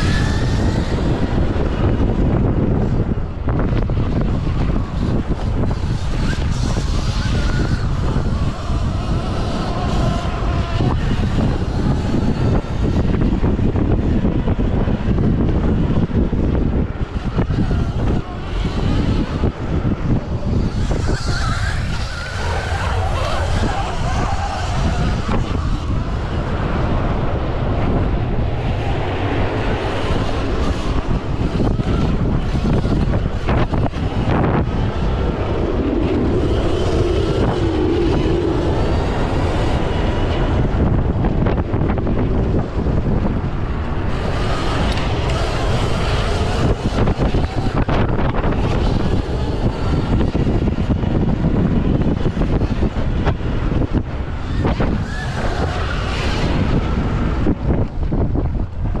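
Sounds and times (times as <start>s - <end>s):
dirt bike riding noise: 0.0s - 59.0s
wind on microphone: 0.0s - 59.0s.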